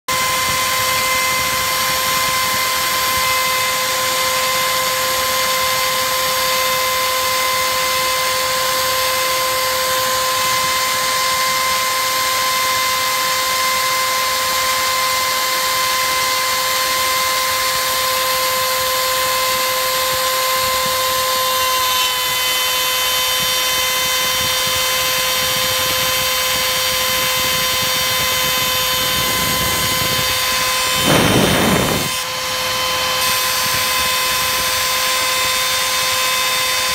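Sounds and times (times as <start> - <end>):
router spindle high whine: 0.1 - 36.9.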